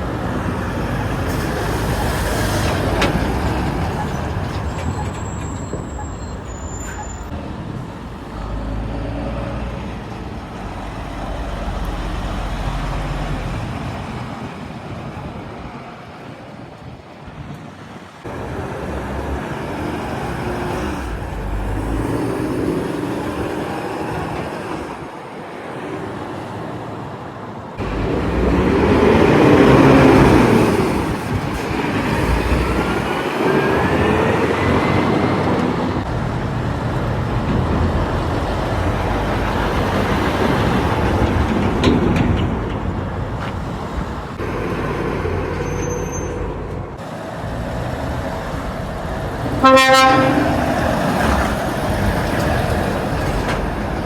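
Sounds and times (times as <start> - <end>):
heavy trucks driving past: 0.0 - 54.0.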